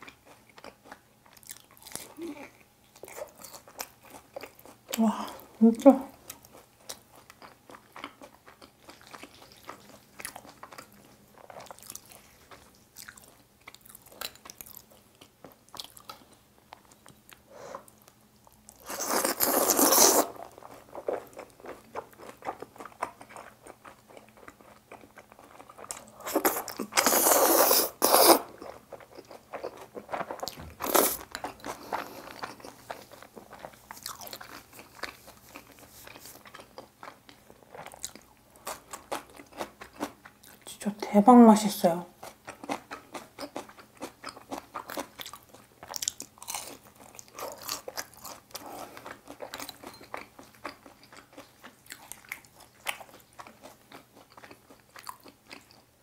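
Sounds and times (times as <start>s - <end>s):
person chewing crunchy food: 0.0s - 5.5s, 6.1s - 40.6s, 42.2s - 56.0s.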